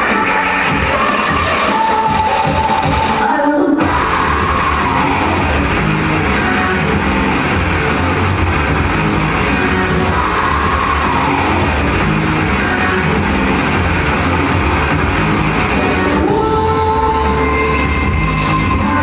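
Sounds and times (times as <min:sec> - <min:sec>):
loud rock music with electric guitar: 0:00.0 - 0:19.0.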